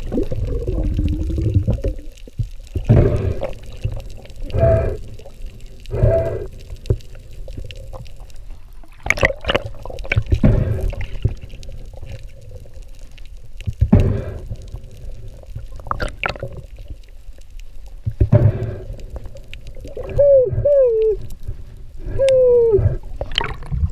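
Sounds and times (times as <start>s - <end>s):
water rushing and bubbling: 0.0s - 23.9s.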